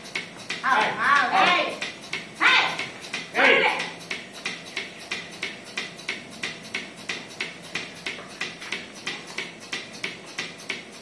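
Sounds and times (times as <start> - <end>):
milking pulsator clicking: 0.0 - 11.0.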